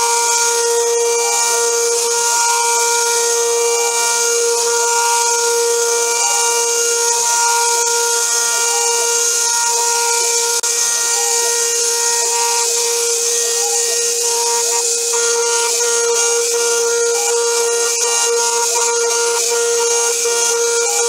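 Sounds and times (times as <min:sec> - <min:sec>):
milling spindle whining: 0:00.0 - 0:21.0.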